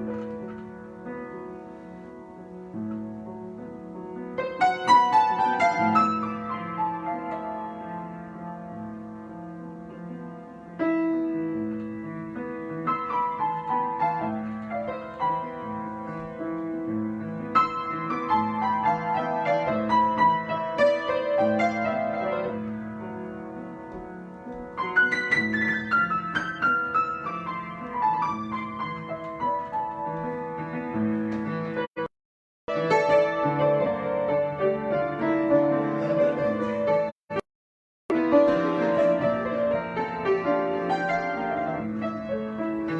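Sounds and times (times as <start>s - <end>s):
solo piano: 0.0s - 32.1s, 32.7s - 37.5s, 38.1s - 42.9s.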